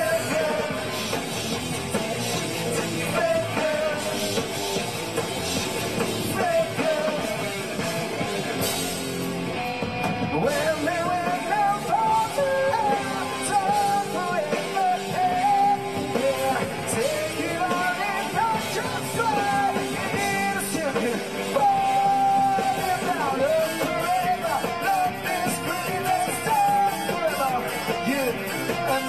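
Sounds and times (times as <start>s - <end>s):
man singing: 0.0s - 1.2s, 2.6s - 4.4s, 6.0s - 7.8s, 10.2s - 29.0s
drums: 0.0s - 29.0s
electric bass guitar: 0.0s - 29.0s.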